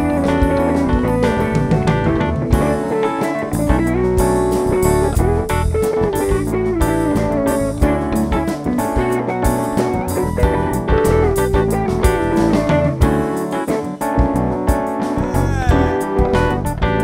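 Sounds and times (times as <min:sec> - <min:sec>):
drum kit: 0:00.0 - 0:17.0
electric bass: 0:00.0 - 0:17.0
electric guitar lead: 0:00.0 - 0:17.0
keyboard: 0:00.0 - 0:17.0.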